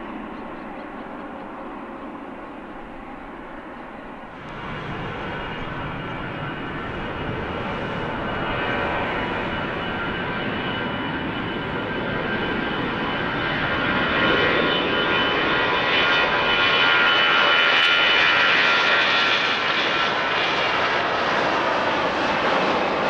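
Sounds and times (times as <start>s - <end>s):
jet engine high whine: 0.0s - 23.0s
jet engines rumbling: 0.0s - 23.0s.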